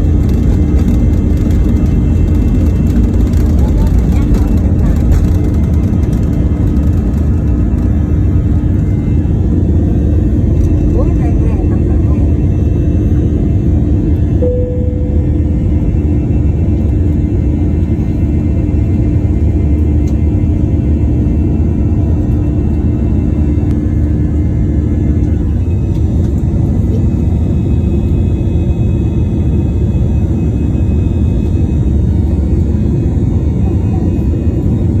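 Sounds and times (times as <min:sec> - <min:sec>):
airplane engines rumbling: 0:00.0 - 0:35.0
steady hum: 0:00.0 - 0:35.0.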